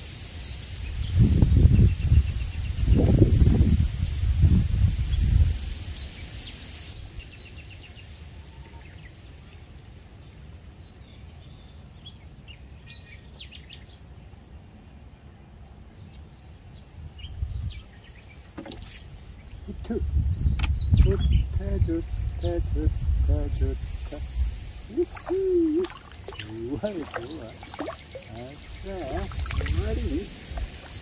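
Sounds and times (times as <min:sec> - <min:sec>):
faint open-air ambience: 0:00.0 - 0:31.0
small birds chirping: 0:00.3 - 0:14.6, 0:15.2 - 0:31.0.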